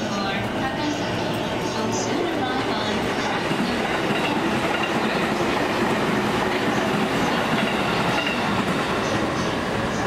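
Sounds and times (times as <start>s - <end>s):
train rolling past: 0.0s - 10.0s.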